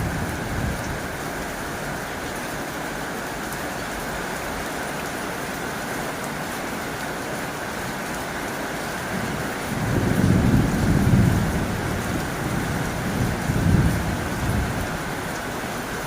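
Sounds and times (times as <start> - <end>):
heavy rain on a tin roof: 0.0 - 16.0.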